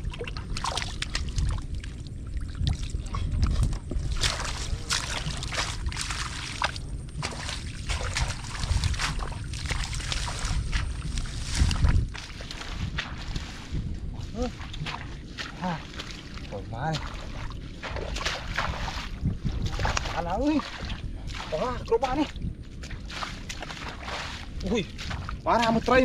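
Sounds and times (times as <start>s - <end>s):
shallow water sloshing and splashing: 0.0s - 26.0s.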